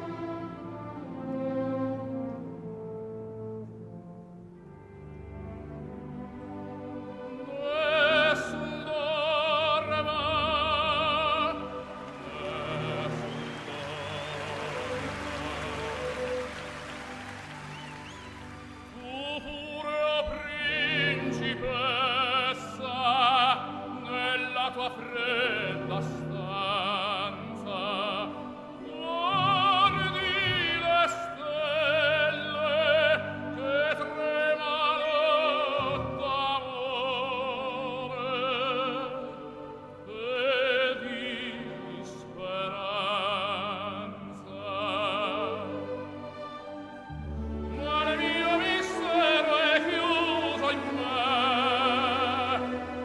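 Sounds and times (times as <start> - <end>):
orchestral accompaniment: 0.0 - 53.0
opera singer with vibrato: 7.1 - 53.0.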